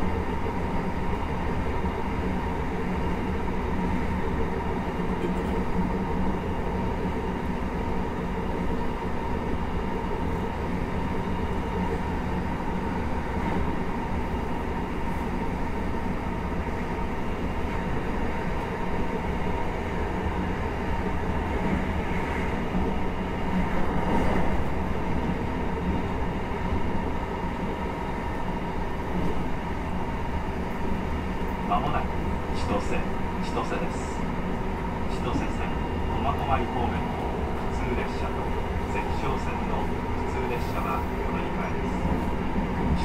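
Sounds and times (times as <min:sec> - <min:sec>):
constant hum: 0:00.0 - 0:43.0
train wheels rumbling on rails: 0:00.0 - 0:43.0.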